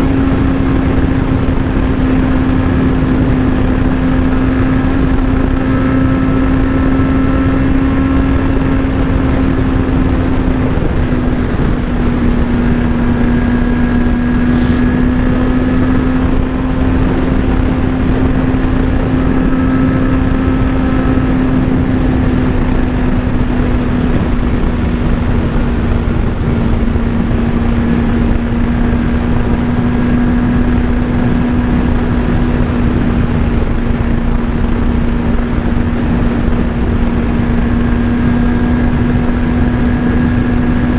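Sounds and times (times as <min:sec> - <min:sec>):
motorcycle engine cruising: 0:00.0 - 0:40.9
wind on microphone: 0:00.0 - 0:40.9.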